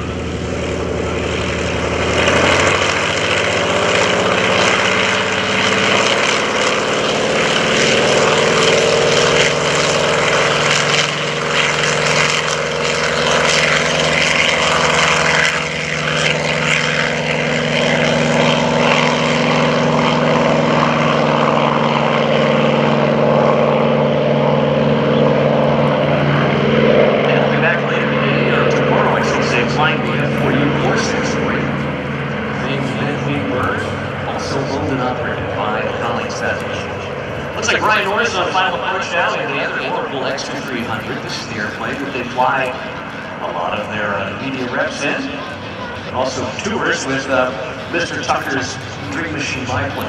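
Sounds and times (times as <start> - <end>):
propeller noise: 0.0 - 50.0
radial aircraft engine roaring: 0.0 - 50.0.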